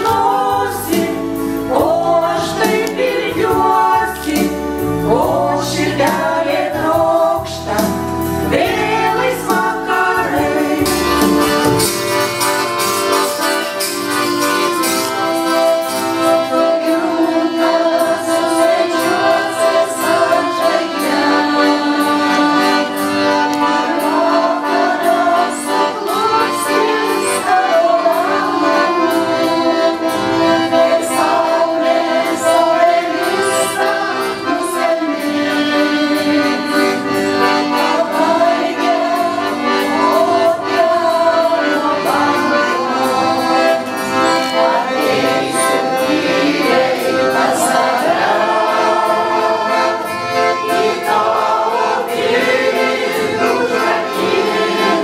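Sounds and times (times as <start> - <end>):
mixed voices singing: 0.0 - 11.9, 15.4 - 55.0
accordion chords: 0.0 - 55.0.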